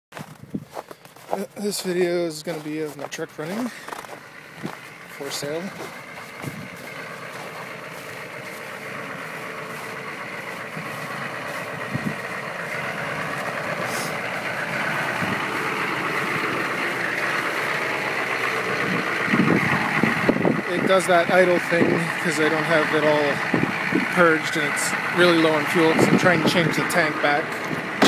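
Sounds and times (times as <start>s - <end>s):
engine knocks: 0.1s - 28.0s
diesel engine idling unevenly: 0.2s - 28.0s.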